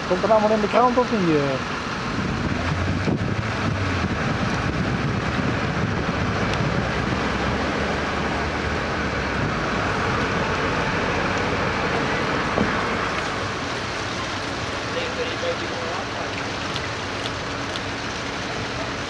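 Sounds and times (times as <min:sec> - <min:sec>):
low engine hum: 0:00.0 - 0:19.0
water rushing: 0:00.0 - 0:19.0.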